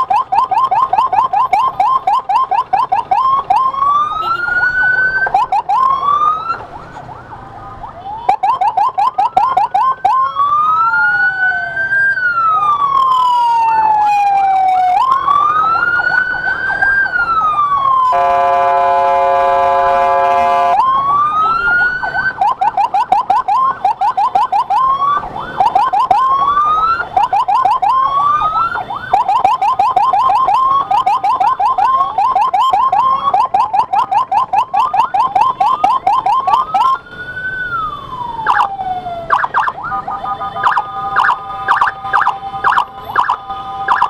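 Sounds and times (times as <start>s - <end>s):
electronic emergency siren: 0.0s - 44.0s.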